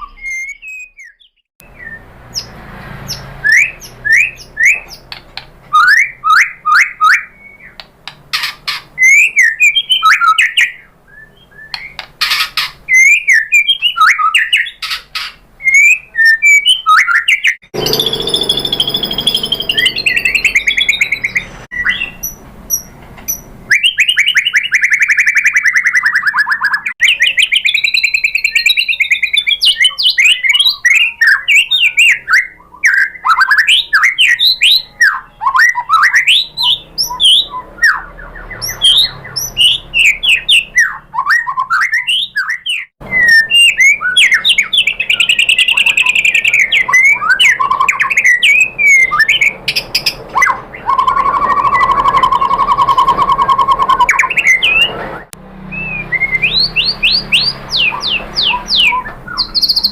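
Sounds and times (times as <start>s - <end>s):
bird singing varied whistles: 0.0s - 2.5s, 3.4s - 5.1s, 5.7s - 7.8s, 9.0s - 12.0s, 12.9s - 14.8s, 15.6s - 59.9s.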